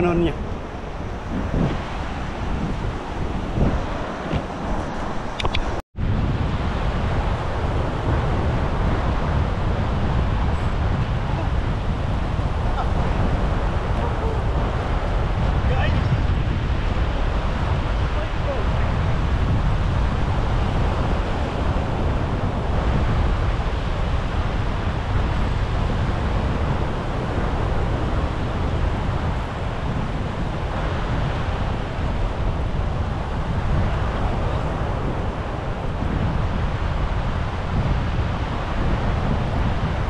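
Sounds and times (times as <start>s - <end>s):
breaking surf: 0.0s - 40.0s
wind buffeting microphone: 0.0s - 40.0s.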